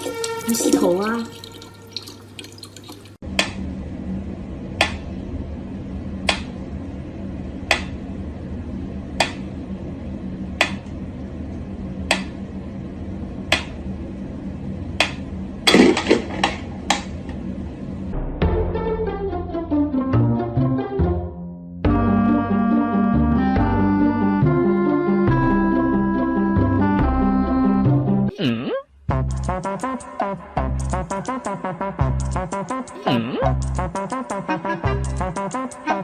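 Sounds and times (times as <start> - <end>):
low steady hum: 0.0 - 18.4, 21.9 - 36.0.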